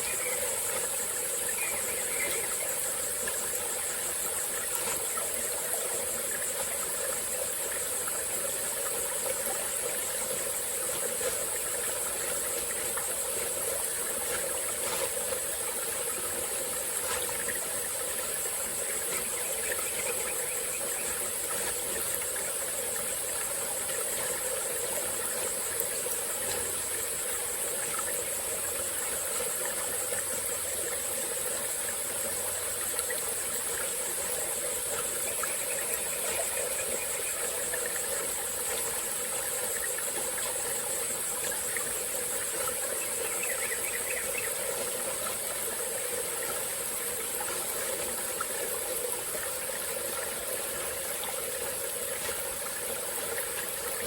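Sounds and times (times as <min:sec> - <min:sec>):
insect chorus: 0:00.0 - 0:54.0
stream flowing: 0:00.0 - 0:54.0.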